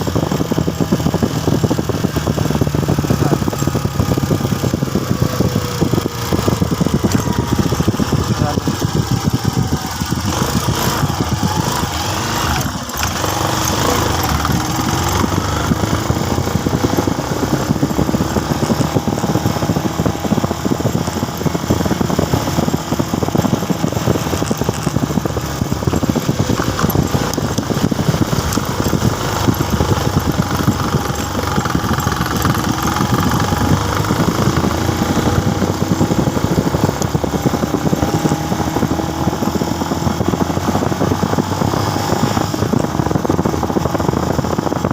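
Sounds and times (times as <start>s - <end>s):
motorcycle engine running: 0.0s - 44.9s
steady rush of noise: 0.0s - 44.9s.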